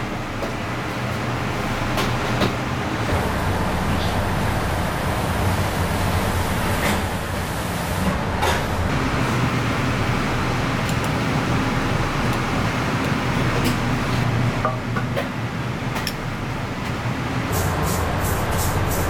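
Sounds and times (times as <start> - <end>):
machinery humming and hissing: 0.0 - 19.0.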